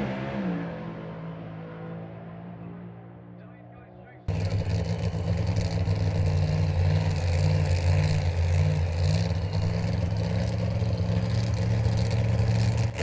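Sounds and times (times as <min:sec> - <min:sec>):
car engine rumbling at low revs: 0:00.0 - 0:13.0.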